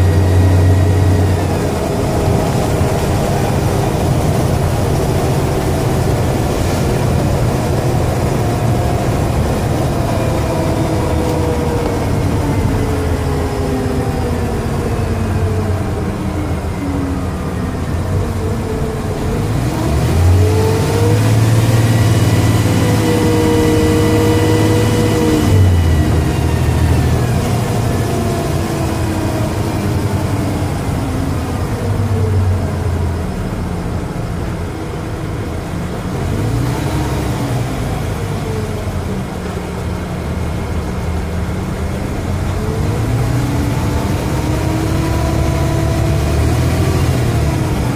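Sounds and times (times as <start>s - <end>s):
bus engine drone: 0.0s - 47.9s
turbocharger whine: 0.0s - 47.9s.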